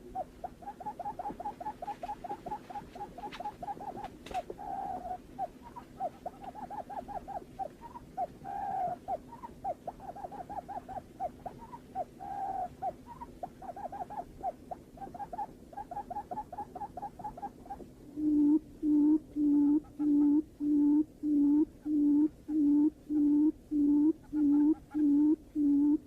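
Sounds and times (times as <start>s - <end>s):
buttonquail hooting calls: 0.0s - 26.0s.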